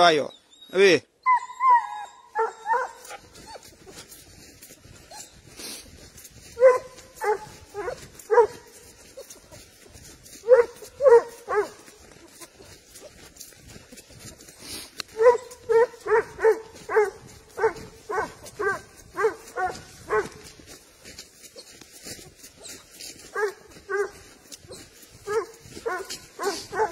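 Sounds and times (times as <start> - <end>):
hound barking: 1.2 - 26.9.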